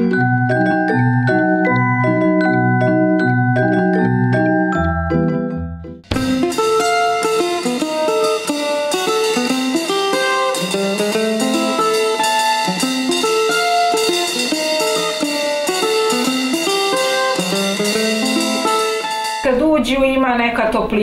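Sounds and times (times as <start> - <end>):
instrumental background music: 0.0 - 19.9.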